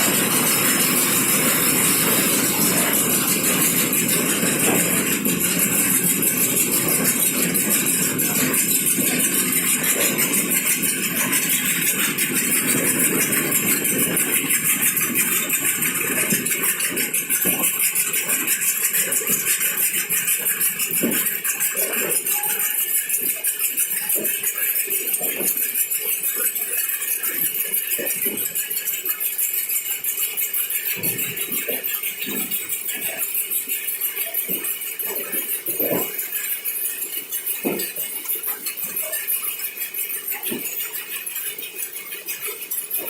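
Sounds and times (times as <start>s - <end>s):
machinery ticking: 0.0s - 43.0s.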